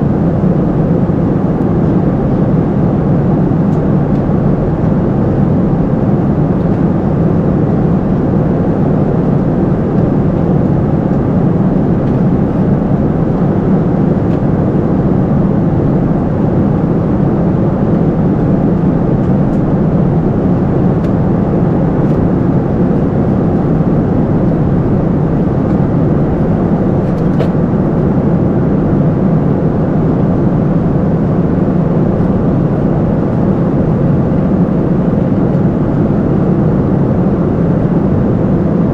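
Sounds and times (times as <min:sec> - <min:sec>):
airflow rush in aircraft cabin: 0:00.0 - 0:38.9
low engine drone: 0:00.0 - 0:38.9.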